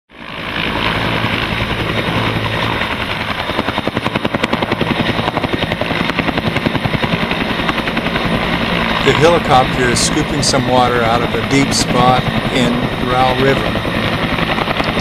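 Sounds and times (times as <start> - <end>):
helicopter rotor beat: 0.1 - 15.0.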